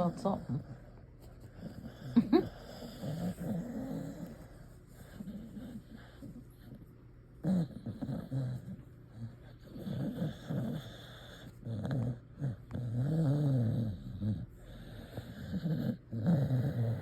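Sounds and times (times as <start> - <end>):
dog growling and snoring: 0.0 - 17.0.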